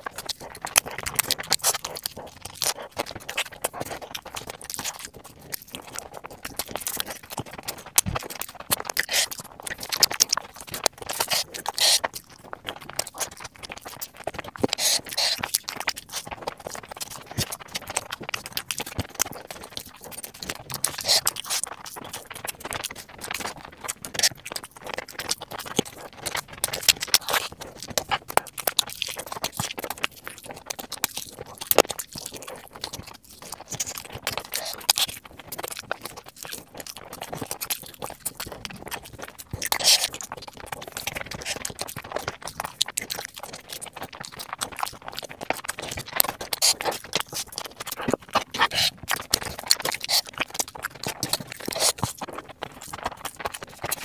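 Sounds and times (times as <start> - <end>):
chewing with clicky mouth sounds: 0.0 - 54.0.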